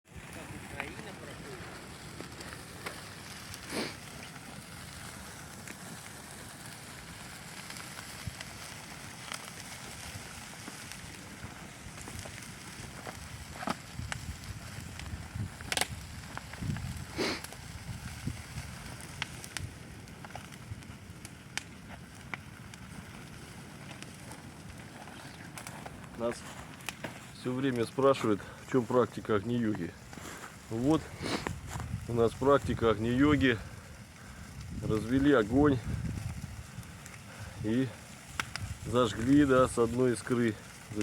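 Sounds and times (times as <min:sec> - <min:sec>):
campfire hissing and crackling: 0:00.1 - 0:41.0
low rush of flames: 0:00.1 - 0:41.0.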